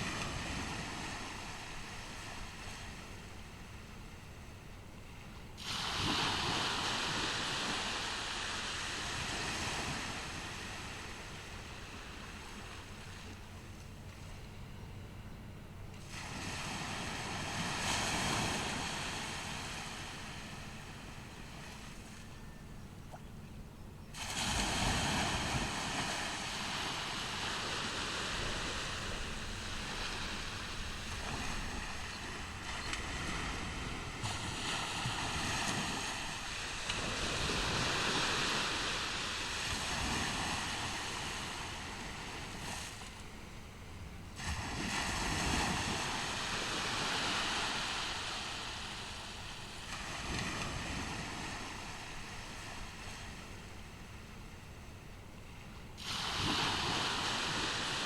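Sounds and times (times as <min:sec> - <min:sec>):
waves breaking on beach: 0:00.0 - 0:14.6, 0:15.8 - 0:23.4, 0:24.1 - 0:58.0.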